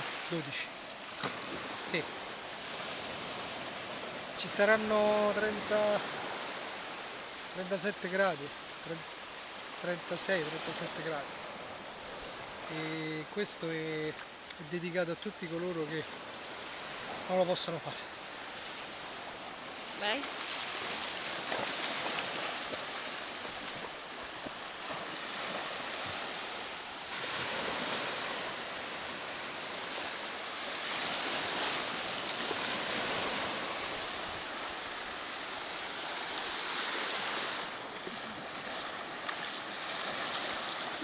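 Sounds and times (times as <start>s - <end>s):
small waves breaking on beach: 0.0s - 41.0s.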